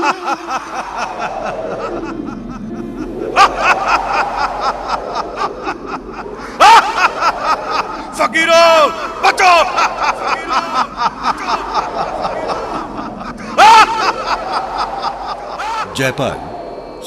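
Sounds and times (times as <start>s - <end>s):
man laughing: 0.0s - 16.0s.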